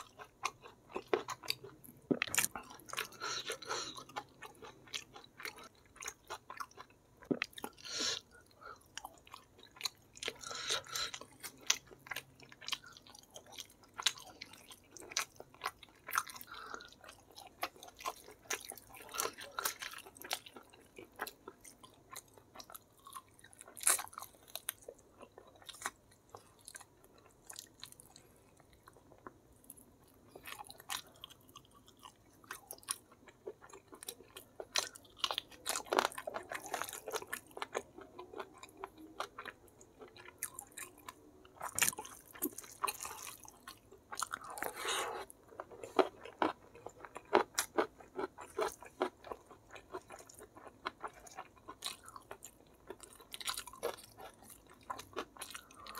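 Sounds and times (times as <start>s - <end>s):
close chewing: 0.0s - 55.9s.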